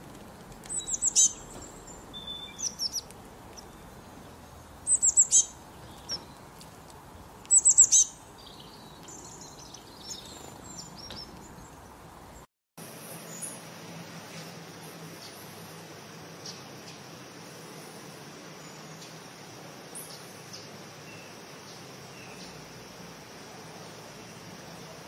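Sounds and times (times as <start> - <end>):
small songbird chirping: 0.6 - 12.4, 14.3 - 25.0.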